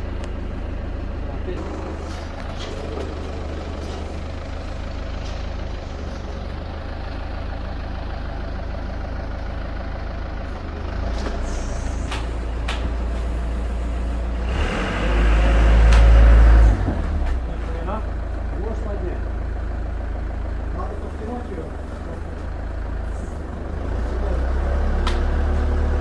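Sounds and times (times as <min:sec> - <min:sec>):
truck engine running and revving: 0:00.0 - 0:26.0.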